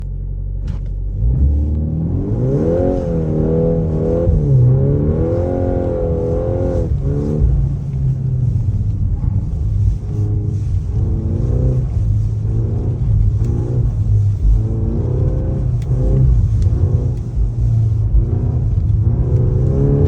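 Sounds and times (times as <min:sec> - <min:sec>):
car engine and exhaust accelerating: 0:00.0 - 0:20.0.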